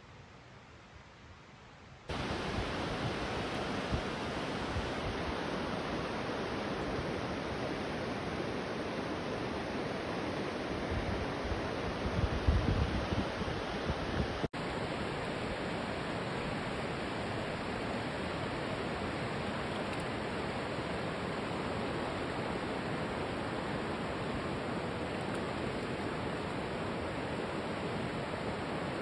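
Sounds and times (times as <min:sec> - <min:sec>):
water rushing over rapids: 0:02.1 - 0:29.0.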